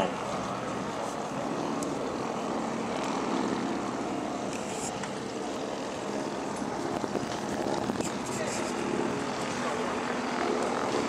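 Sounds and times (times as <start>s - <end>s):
propeller plane flying overhead: 0.0s - 11.0s.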